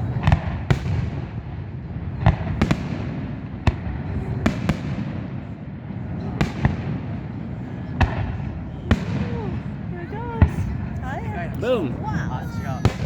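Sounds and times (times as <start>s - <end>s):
rumble of distant fireworks: 0.0s - 13.0s.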